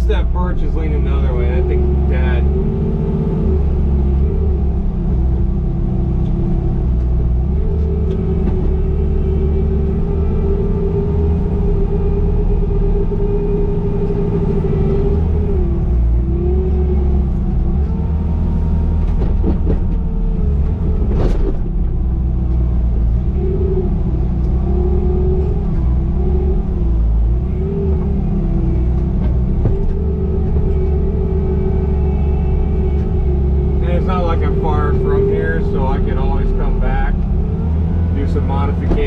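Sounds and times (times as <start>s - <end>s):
diesel engine running hard: 0.0s - 39.0s.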